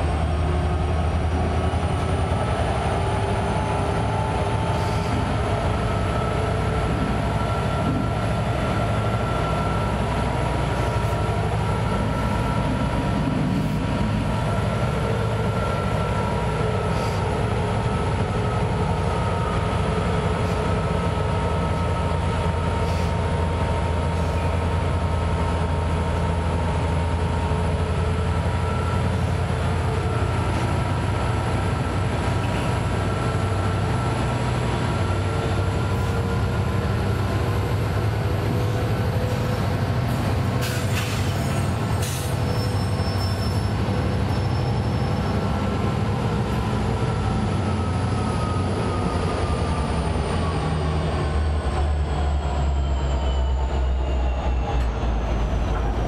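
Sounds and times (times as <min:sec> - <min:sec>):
diesel locomotive engines humming: 0:00.0 - 0:56.0.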